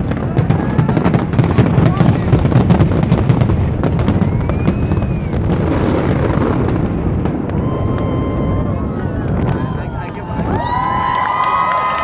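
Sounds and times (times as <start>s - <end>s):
fireworks popping and crackling: 0.0s - 12.0s
low rumble of fireworks bursts: 0.0s - 12.0s.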